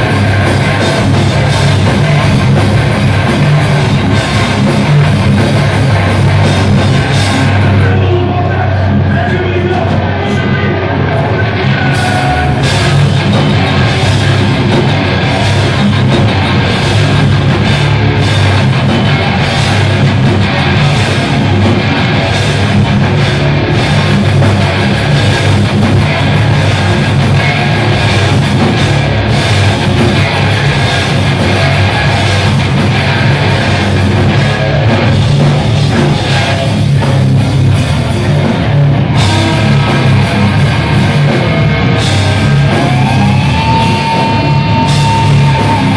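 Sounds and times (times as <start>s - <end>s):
bass guitar: 0.0s - 45.9s
distorted electric guitars: 0.0s - 45.9s
drum kit: 0.0s - 45.9s.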